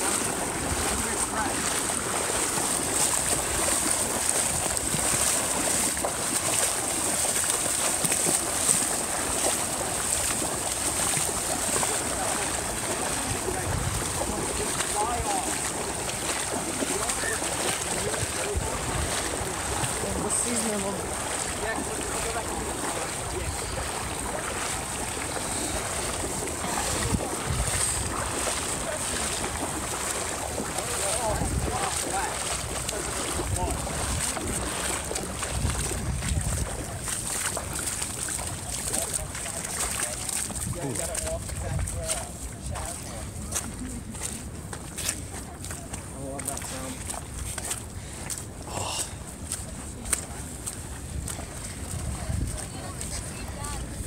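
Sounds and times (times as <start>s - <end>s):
footsteps splashing through water: 0.0s - 54.0s
wind rumbling on microphone: 0.0s - 54.0s.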